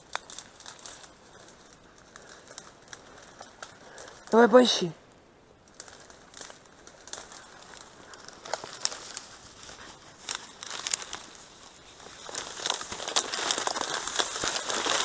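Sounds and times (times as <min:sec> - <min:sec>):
stalks snapping: 0:00.0 - 0:04.4, 0:05.6 - 0:15.0
reeds rustling and crackling: 0:00.0 - 0:15.0.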